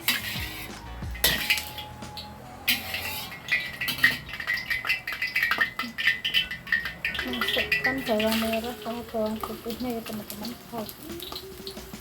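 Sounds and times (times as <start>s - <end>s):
metal cookware clinking: 0.0s - 11.4s.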